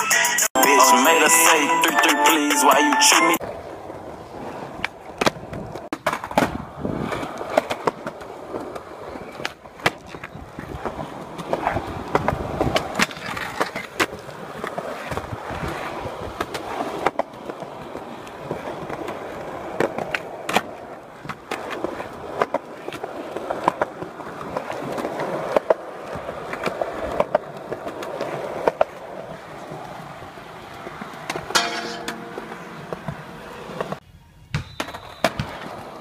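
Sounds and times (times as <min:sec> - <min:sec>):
skateboard wheels rolling on concrete: 0:00.0 - 0:36.0
skateboard tail clacks: 0:04.8 - 0:34.0.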